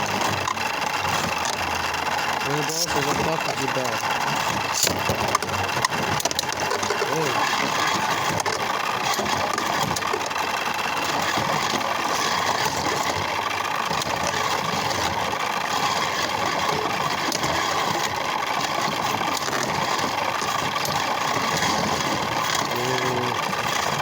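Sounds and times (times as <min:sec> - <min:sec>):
small electric motor running: 0:00.0 - 0:24.0
spinning tops whirring: 0:00.0 - 0:24.0.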